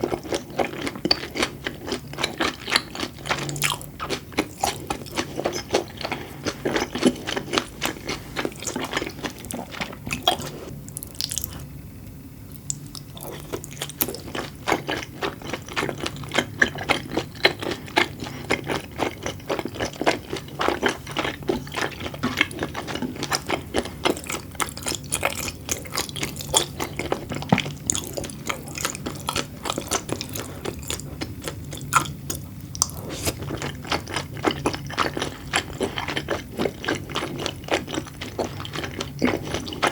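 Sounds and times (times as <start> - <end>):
wet chewing: 0.0 - 11.7, 12.5 - 39.9.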